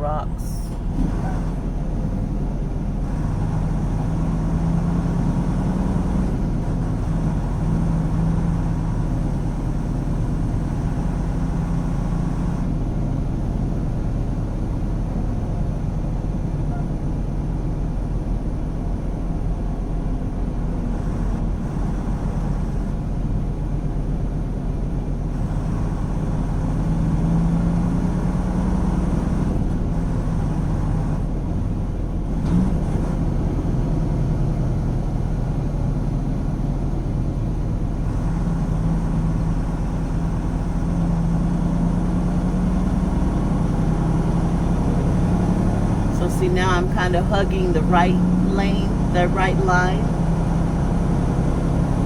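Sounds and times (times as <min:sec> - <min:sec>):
truck engine drone in cab: 0:00.0 - 0:52.0.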